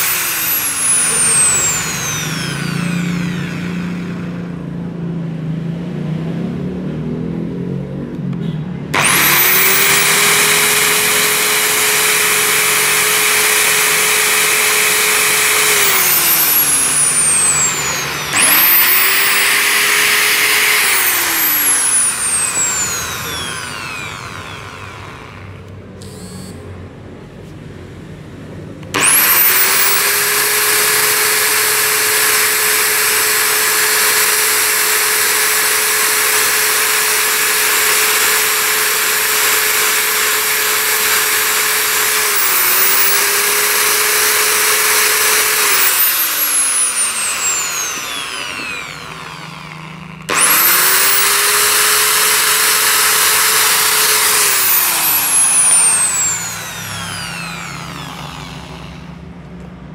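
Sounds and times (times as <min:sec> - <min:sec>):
rotary grinder whining: 0:00.0 - 0:04.7, 0:08.9 - 0:26.8, 0:28.8 - 0:59.5.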